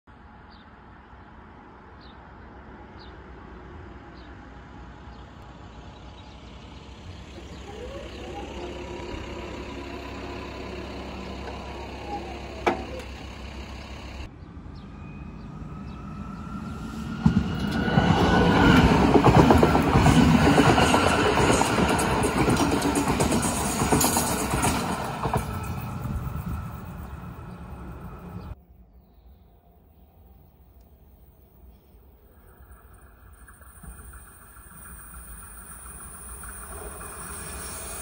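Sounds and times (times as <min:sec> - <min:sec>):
electric train passing: 0:02.6 - 0:28.6, 0:29.8 - 0:38.0.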